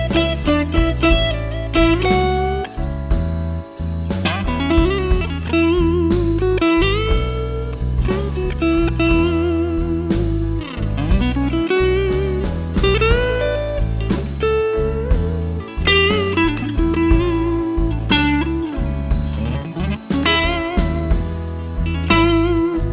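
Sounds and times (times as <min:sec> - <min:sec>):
blues backing track: 0:00.0 - 0:22.9
electric guitar blues lead: 0:00.0 - 0:22.9.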